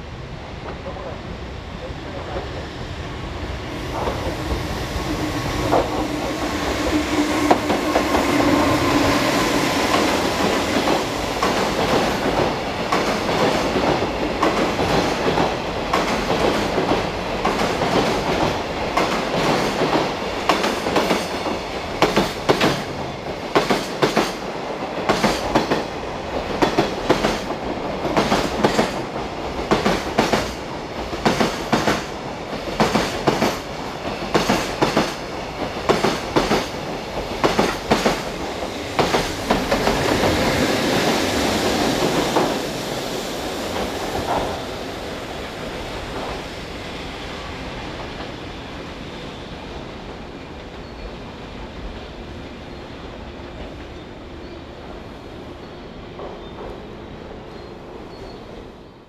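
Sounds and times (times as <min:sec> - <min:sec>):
electric locomotive humming: 0:00.0 - 0:57.3.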